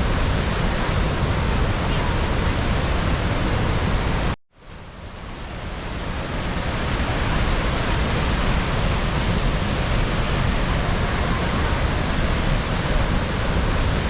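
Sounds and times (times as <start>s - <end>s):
waterfall rushing: 0.0s - 4.4s, 5.0s - 14.0s.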